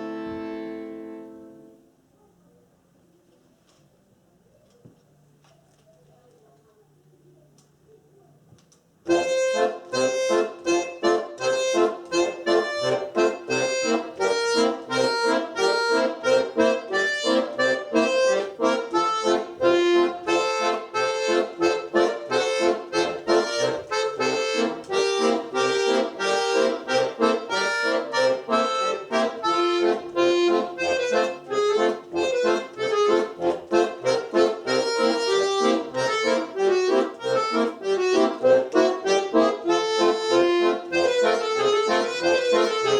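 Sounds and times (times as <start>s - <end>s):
accordion playing folk tune: 0.0s - 1.8s, 9.1s - 42.9s.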